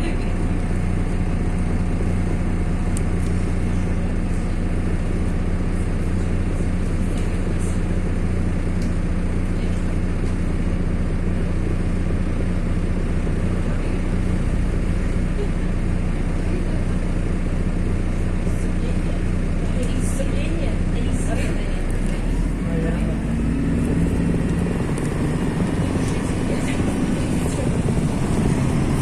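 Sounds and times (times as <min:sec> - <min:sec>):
bus engine droning: 0:00.0 - 0:29.0
road noise: 0:00.0 - 0:29.0.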